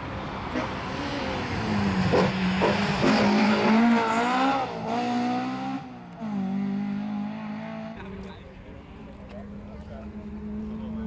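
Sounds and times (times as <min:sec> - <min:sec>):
rally car engine revving: 0:00.4 - 0:08.3, 0:09.4 - 0:11.0.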